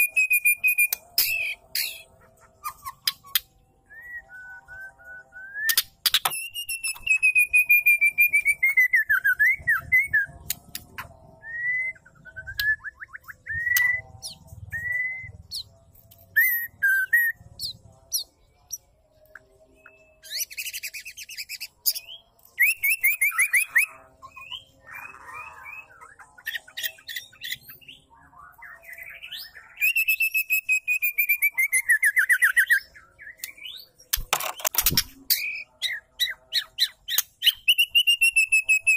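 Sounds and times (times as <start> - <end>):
bird gliding whistles and chirps: 0.0 - 10.4, 11.0 - 15.7, 16.3 - 18.8, 19.6 - 34.0, 35.3 - 38.9.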